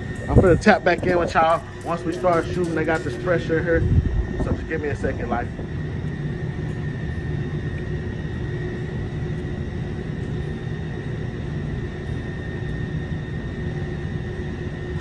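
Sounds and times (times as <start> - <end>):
faint high whine: 0.0 - 15.0
steady low rumble: 0.0 - 15.0.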